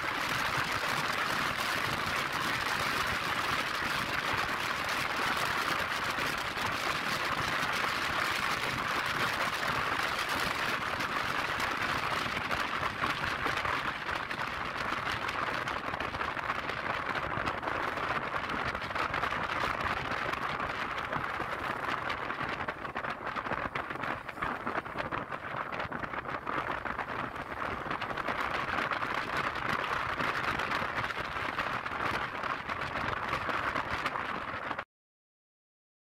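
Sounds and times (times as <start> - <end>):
wind and road noise: 0.0 - 34.8.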